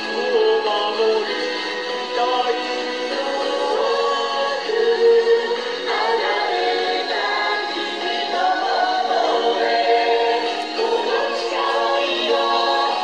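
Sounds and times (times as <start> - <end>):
song through small speaker: 0.0 - 13.0.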